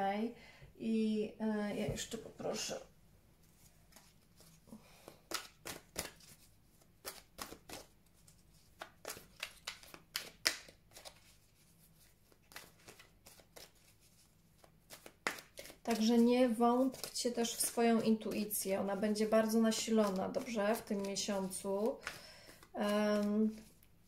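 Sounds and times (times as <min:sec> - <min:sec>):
cards being shuffled: 0:03.6 - 0:24.0.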